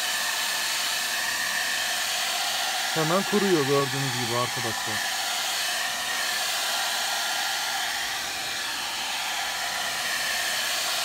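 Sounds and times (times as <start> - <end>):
hot-air blower rushing: 0.0 - 11.0.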